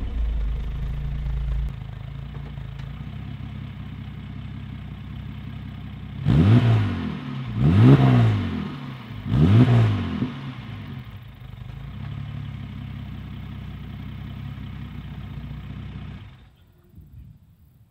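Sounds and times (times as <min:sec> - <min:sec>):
car engine idling and revving: 0:00.0 - 0:16.5.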